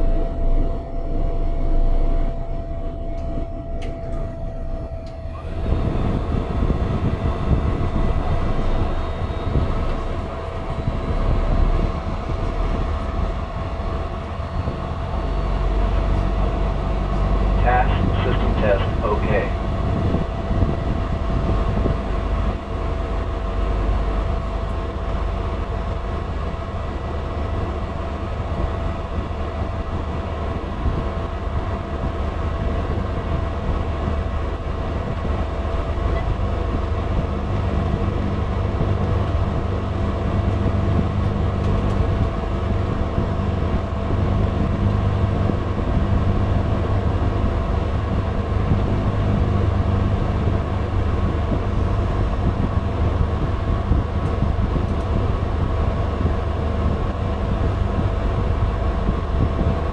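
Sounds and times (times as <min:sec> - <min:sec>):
small plane engine droning: 0:00.0 - 0:59.9.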